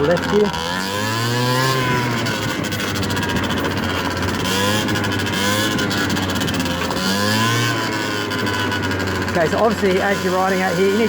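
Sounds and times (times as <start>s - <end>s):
scooter engine revving: 0.0s - 11.0s.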